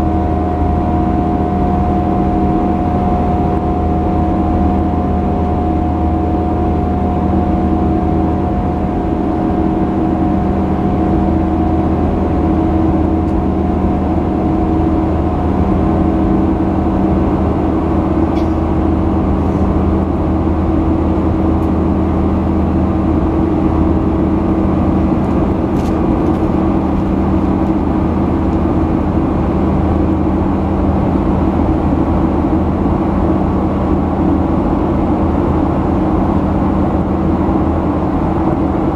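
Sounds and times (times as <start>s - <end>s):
jet engines in aircraft cabin: 0.0s - 38.9s.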